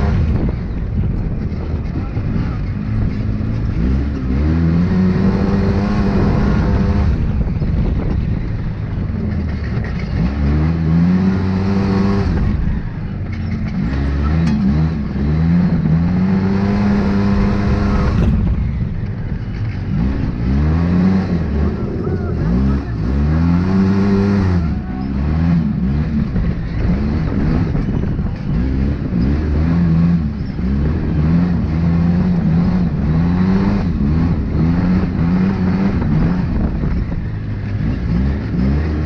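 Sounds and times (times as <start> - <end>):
buggy engine accelerating: 0.0 - 39.0.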